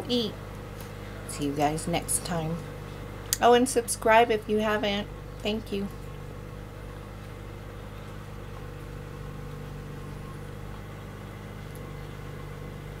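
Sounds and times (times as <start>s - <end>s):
steady low machine hum: 0.0s - 13.0s.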